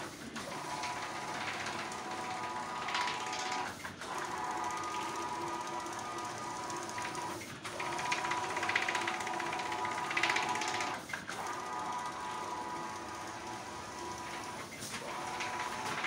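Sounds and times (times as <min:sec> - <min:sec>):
printer carriage buzzing: 0:00.4 - 0:16.0.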